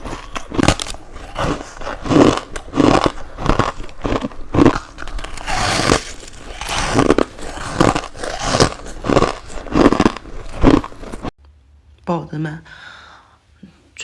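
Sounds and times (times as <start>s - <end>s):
crunching ice: 0.0s - 11.3s.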